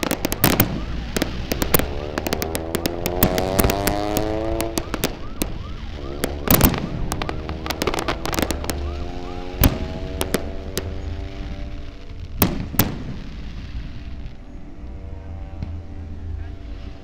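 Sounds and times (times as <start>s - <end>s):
fireworks bursting with crackling: 0.0s - 14.5s.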